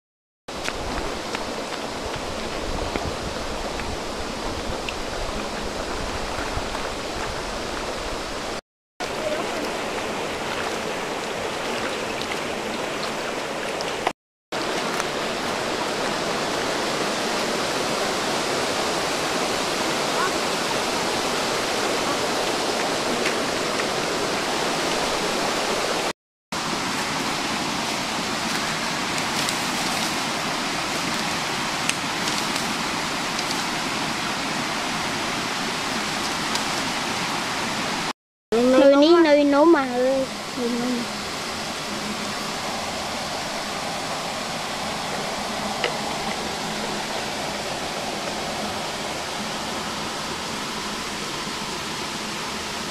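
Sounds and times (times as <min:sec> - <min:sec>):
shallow river water flowing: 0:00.5 - 0:52.9.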